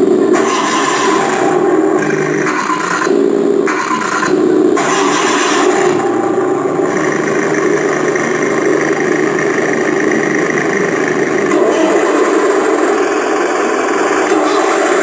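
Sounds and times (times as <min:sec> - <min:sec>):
simulated engine idling: 0:00.0 - 0:15.0.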